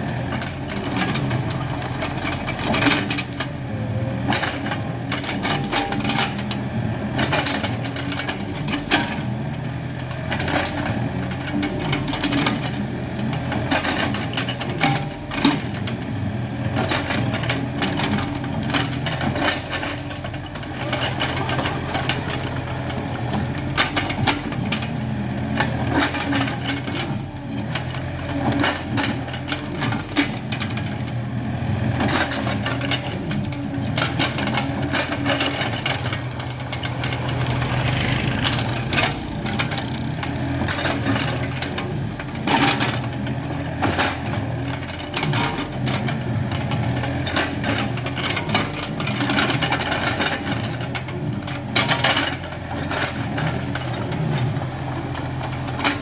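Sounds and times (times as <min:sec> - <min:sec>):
excavator diesel engine running: 0:00.0 - 0:56.0
digging knocks and clanks: 0:00.1 - 0:56.0.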